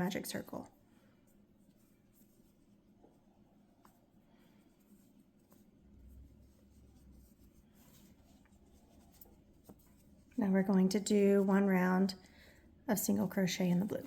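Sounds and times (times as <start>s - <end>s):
yarn rustling: 0.0s - 12.2s.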